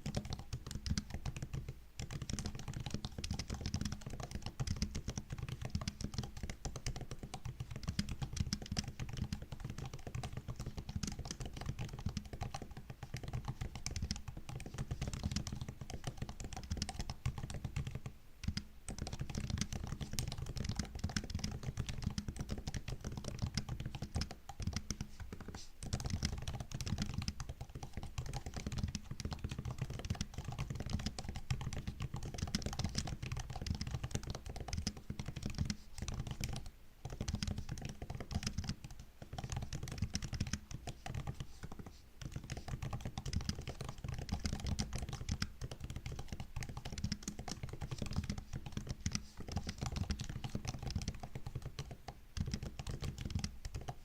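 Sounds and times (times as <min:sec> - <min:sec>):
laptop keyboard typing: 0:00.0 - 0:54.0.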